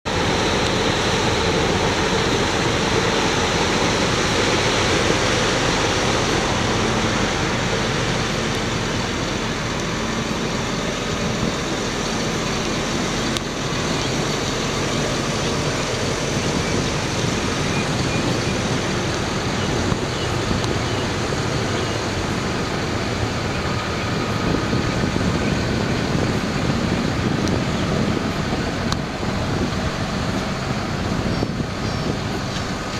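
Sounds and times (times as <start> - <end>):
diesel engine idling: 0.1 - 32.9.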